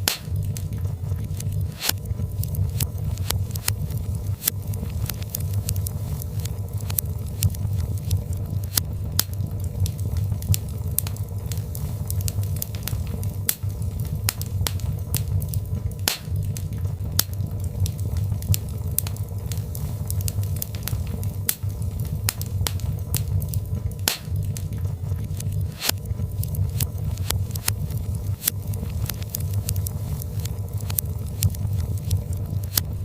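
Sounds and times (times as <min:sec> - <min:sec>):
fire crackling in a fireplace: 0:00.0 - 0:33.0.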